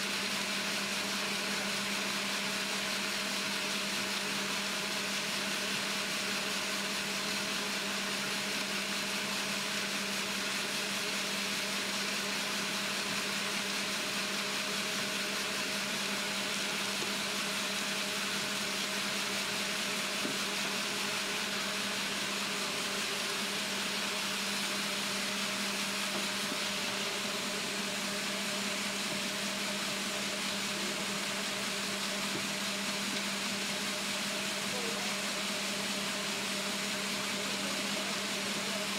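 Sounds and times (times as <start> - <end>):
concrete mixer truck hum: 0.0 - 38.9.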